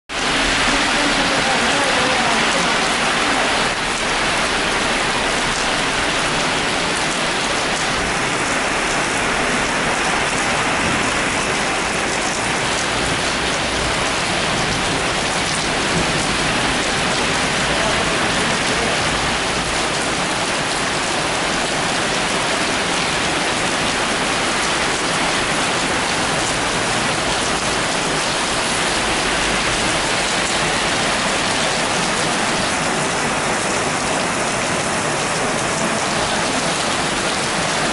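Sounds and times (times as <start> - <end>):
heavy rain on pavement: 0.1 - 37.9.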